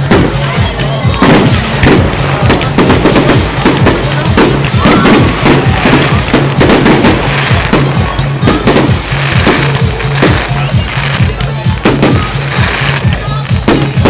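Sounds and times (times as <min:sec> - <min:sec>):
fireworks bangs and crackles: 0:00.0 - 0:14.0
loud music: 0:00.0 - 0:14.0.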